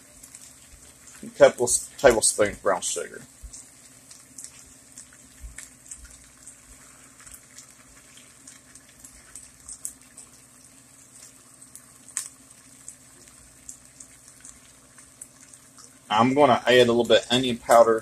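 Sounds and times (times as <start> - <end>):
low steady hum: 0.0 - 18.0
sauce crackling in a pan: 0.0 - 18.0.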